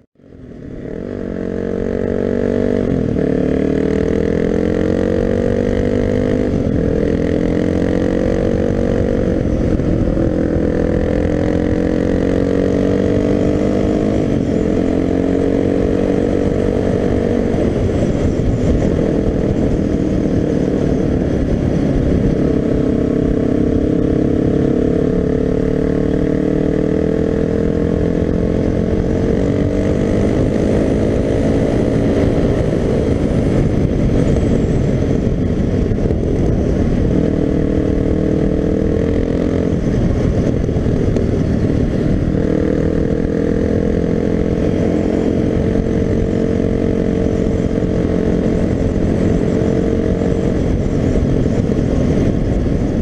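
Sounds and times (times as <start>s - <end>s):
heavy wind rumble: 0.0s - 53.0s
motorcycle engine running: 0.0s - 53.0s.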